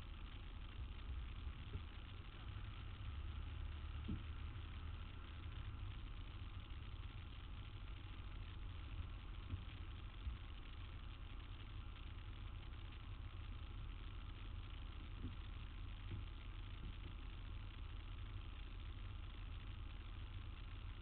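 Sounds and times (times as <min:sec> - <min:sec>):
idling motor traffic rumble: 0:00.0 - 0:21.0.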